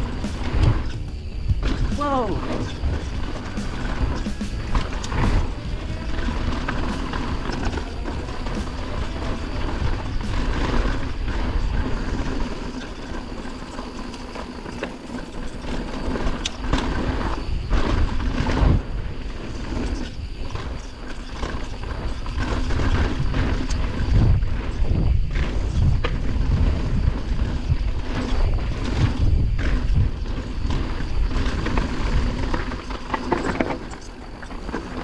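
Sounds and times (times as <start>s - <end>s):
bike knocking and rattling: 0.0s - 35.0s
bike tyres rumbling on dirt: 0.0s - 35.0s.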